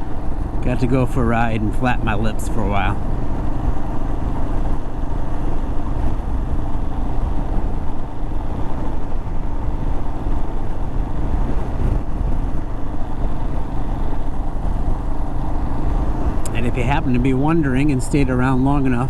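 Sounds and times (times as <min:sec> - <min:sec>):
motorcycle engine running: 0:00.0 - 0:19.0
road noise: 0:00.0 - 0:19.0
wind noise: 0:00.0 - 0:19.0.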